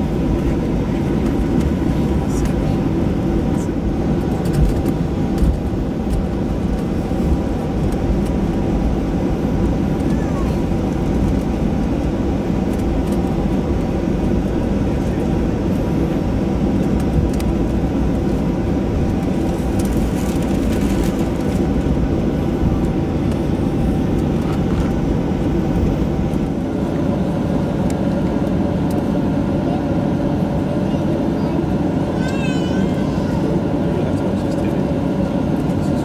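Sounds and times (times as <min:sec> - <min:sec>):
aircraft cabin rumble: 0:00.0 - 0:36.0
jet engine whine: 0:00.0 - 0:36.0.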